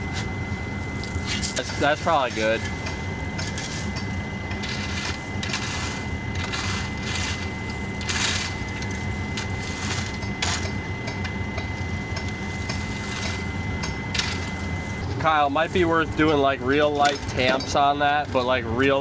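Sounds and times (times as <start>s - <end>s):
hand tools scraping gravel: 0.0s - 10.9s, 11.8s - 17.7s
machine engine idling: 0.0s - 17.8s.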